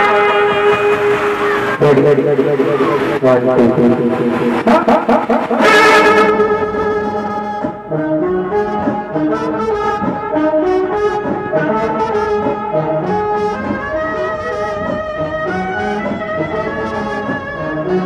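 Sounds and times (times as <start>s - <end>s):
saxophones playing a melody: 0.0s - 18.0s.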